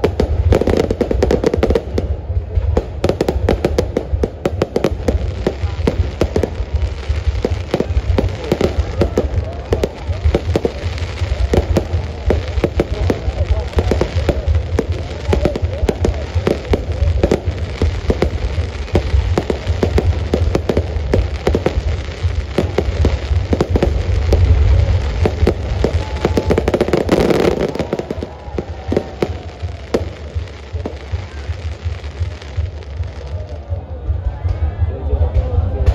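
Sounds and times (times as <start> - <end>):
fireworks crackling: 0.0 - 34.4
deep rumble of firework bursts: 0.0 - 35.9.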